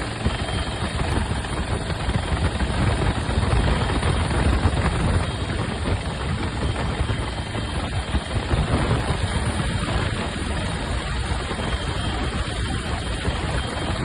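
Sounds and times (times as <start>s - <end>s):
helicopter rotor and engine noise: 0.0s - 14.0s.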